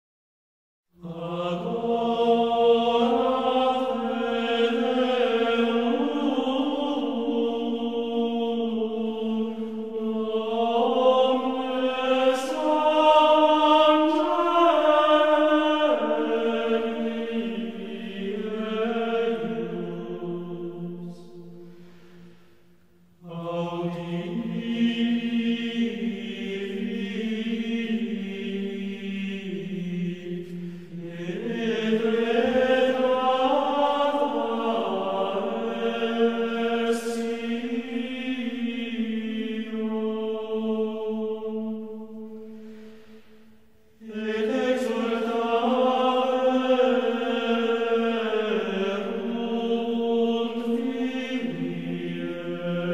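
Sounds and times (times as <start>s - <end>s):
choir chanting in unison: 0.9s - 52.9s.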